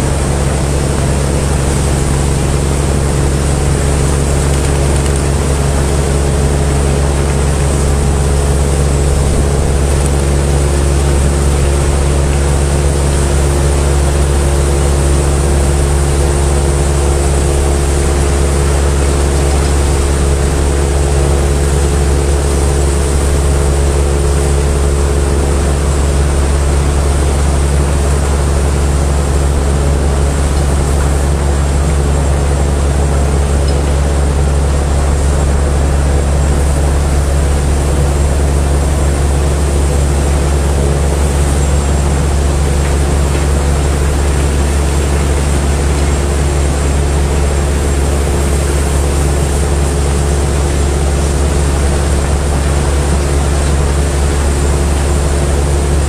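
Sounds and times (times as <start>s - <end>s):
heavy machinery engine droning: 0.0s - 56.0s.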